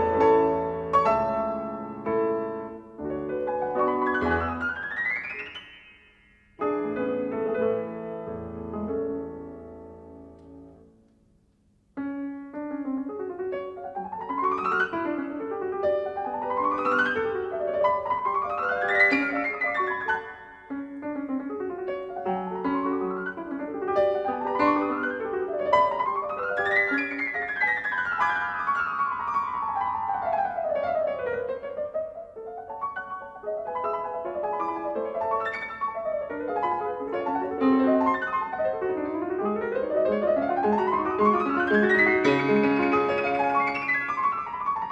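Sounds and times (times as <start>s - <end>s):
solo piano: 0.0s - 44.9s.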